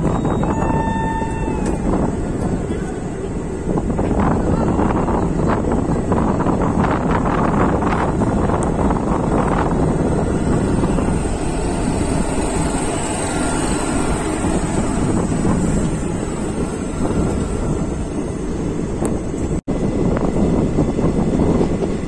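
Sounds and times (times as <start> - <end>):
train coaches rumbling on track: 0.0 - 22.0
wind buffeting microphone: 0.0 - 22.0.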